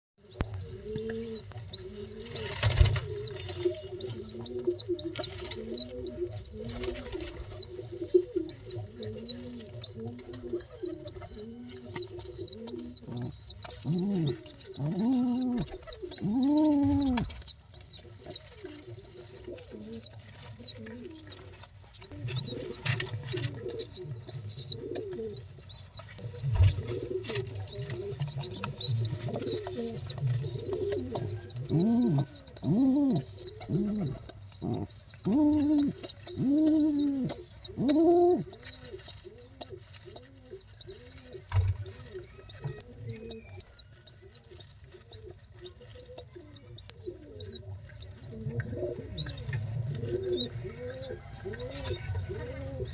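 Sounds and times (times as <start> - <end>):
pigeon chicks peeping: 0.2 - 52.9
pigeon cooing: 0.2 - 52.9.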